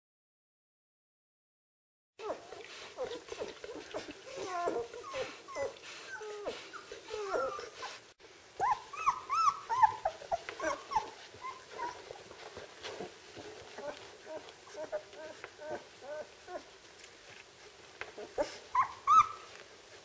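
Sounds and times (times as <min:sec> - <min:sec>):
puppies whimpering and squeaking: 0:02.2 - 0:16.8, 0:18.1 - 0:19.6.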